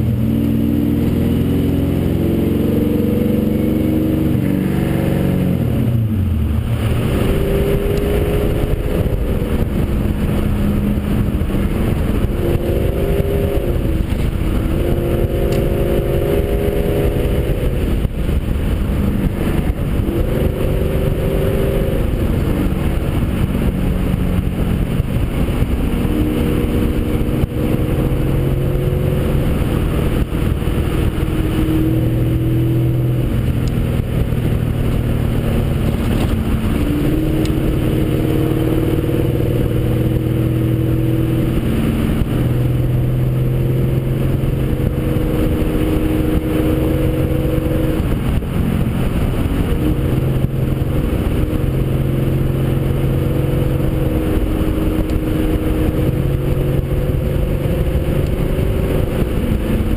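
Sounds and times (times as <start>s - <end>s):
car engine: 0.0s - 59.9s
wind noise: 0.0s - 59.9s.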